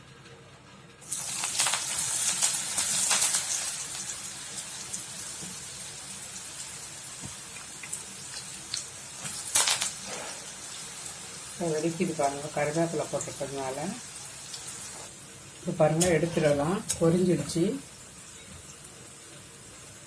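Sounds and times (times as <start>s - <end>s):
peanuts sizzling in hot oil: 1.0s - 20.0s.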